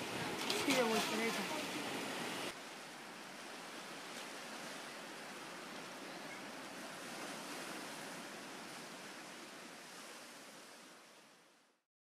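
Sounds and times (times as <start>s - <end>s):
faint sea surf: 0.0s - 11.8s.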